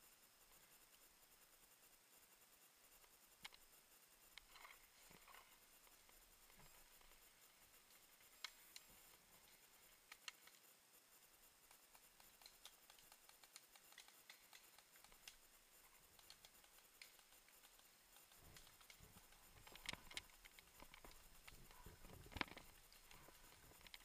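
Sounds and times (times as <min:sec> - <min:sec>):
faint clicks and ticks: 0:00.0 - 0:24.0.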